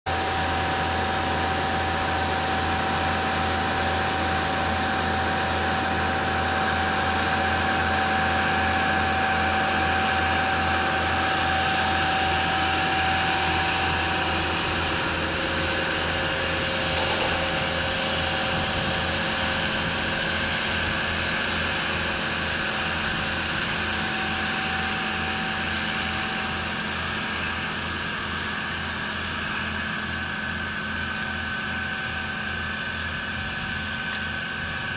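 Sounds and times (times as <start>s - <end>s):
engine pulsing low hum: 0.1s - 34.9s
steady machine whine: 0.1s - 34.9s.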